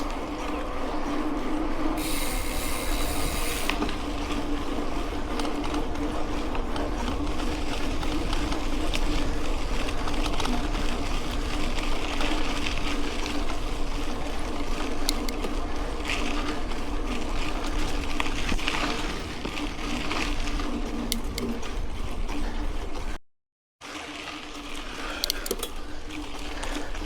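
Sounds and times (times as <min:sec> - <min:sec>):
bike tyres on dirt: 0:00.0 - 0:23.0
bike clicks and rattles: 0:00.0 - 0:23.2, 0:24.0 - 0:27.0
low hum: 0:00.0 - 0:23.2.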